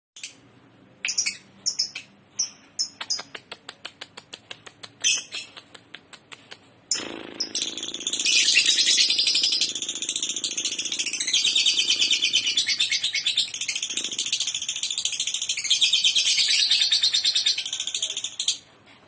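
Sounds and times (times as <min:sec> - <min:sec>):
lovebird chirping and chattering: 0:01.0 - 0:18.6.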